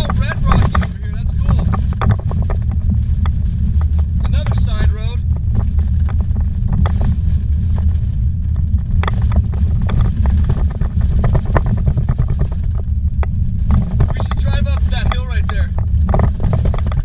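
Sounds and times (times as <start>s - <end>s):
stones knocking under car: 0.0s - 17.0s
tyres rumbling on dirt road: 0.0s - 17.0s.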